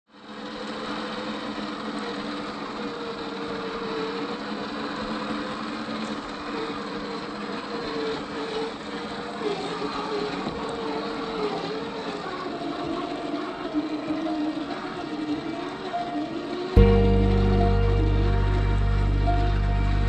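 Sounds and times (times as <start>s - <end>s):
toy car electric motor whining: 0.1s - 16.8s.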